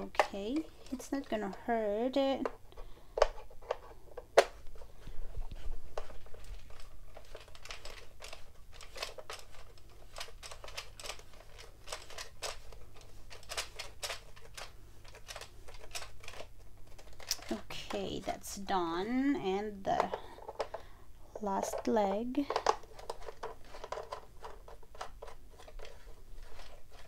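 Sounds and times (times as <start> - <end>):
plastic parts clicking and scraping: 0.0 - 27.0.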